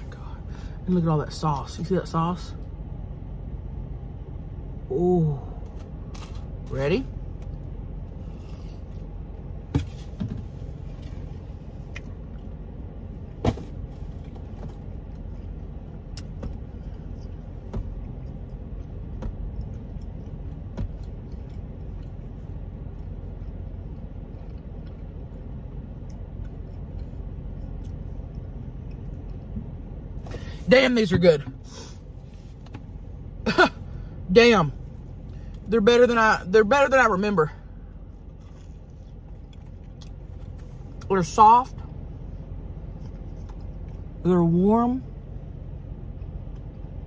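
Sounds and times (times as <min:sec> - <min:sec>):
car cabin engine rumble: 0:00.0 - 0:47.0.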